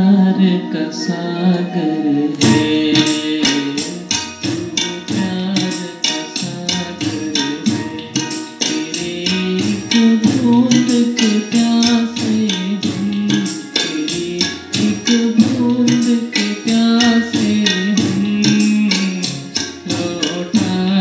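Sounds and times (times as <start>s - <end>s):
held melody line: 0.0s - 21.0s
quick percussion beat: 2.4s - 21.0s.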